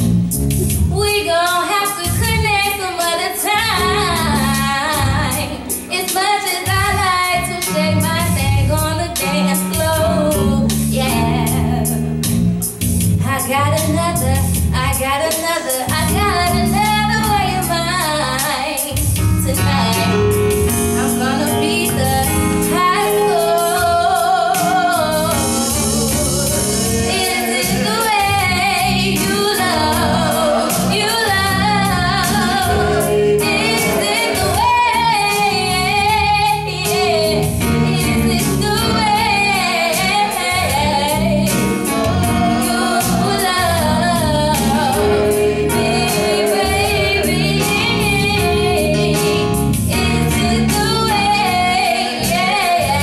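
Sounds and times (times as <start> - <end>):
keyboard accompaniment with beat: 0.0 - 53.0
woman singing into microphone: 0.9 - 12.1, 13.2 - 53.0.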